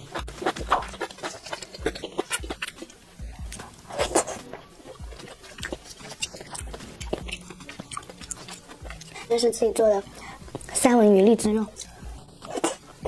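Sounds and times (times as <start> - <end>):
person chewing food: 0.0 - 9.4, 10.0 - 10.8, 11.8 - 13.0.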